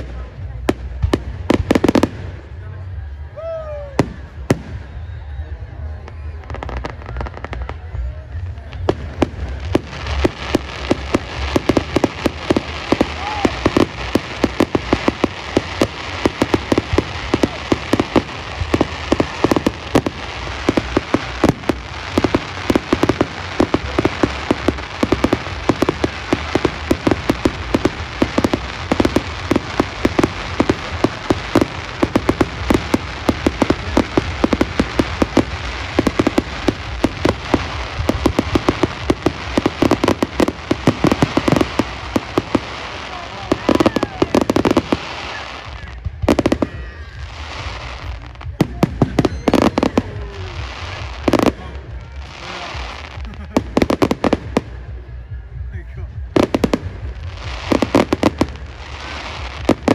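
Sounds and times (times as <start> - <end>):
fireworks popping and crackling: 0.0 - 59.9.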